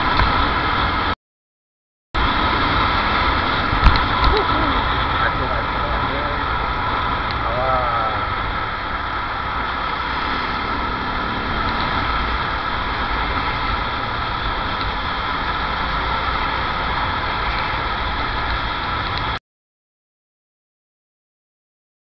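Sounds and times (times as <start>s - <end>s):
motorcycle engine and road noise: 0.0s - 1.2s, 2.2s - 19.4s.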